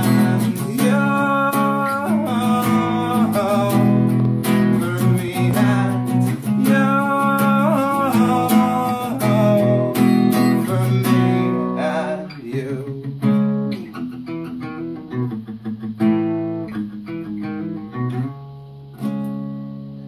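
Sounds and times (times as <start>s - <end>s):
acoustic guitar chords: 0.0s - 20.0s.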